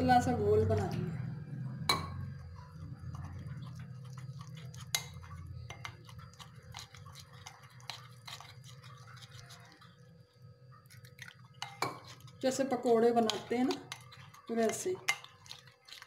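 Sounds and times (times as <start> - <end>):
low steady hum: 0.0 - 16.0
wet batter squelching: 2.4 - 16.0.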